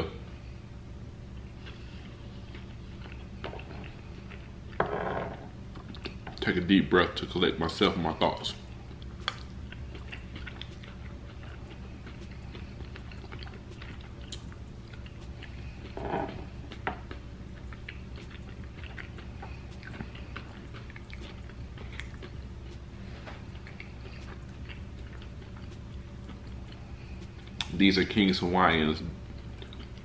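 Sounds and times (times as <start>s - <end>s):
steady low hum: 0.0s - 30.0s
person chewing food: 1.2s - 6.6s, 7.9s - 28.3s, 29.1s - 30.0s.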